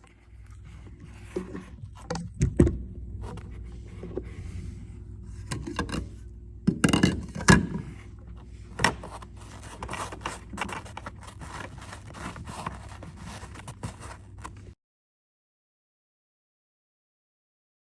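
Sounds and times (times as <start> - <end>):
handling scrapes and knocks: 0.0 - 14.8
steady low hum: 0.0 - 14.8.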